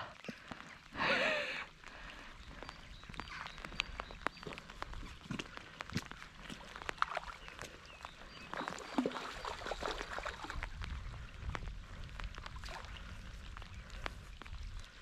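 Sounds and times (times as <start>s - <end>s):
rain ticking: 0.0s - 9.0s, 10.5s - 15.0s.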